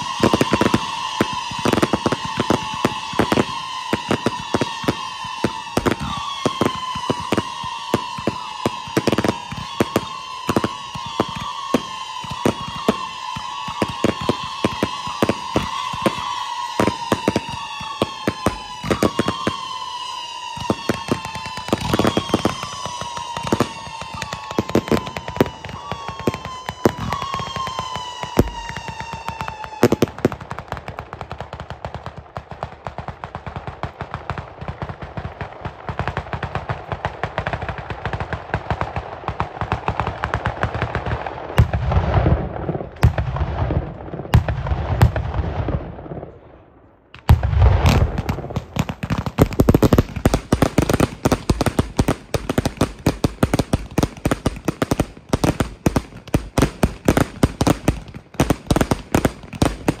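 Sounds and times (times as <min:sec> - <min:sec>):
rapid firecracker bangs: 0:00.0 - 0:46.4, 0:47.2 - 1:00.0.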